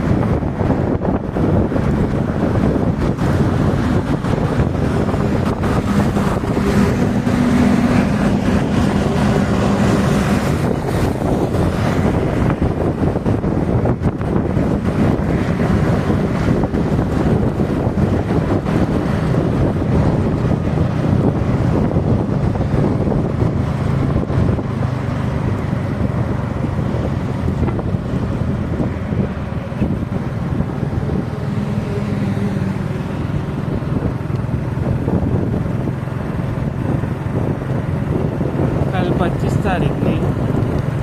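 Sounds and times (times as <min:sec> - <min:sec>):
vehicle engine hum: 0:00.0 - 0:41.0
wind buffeting microphone: 0:00.0 - 0:41.0.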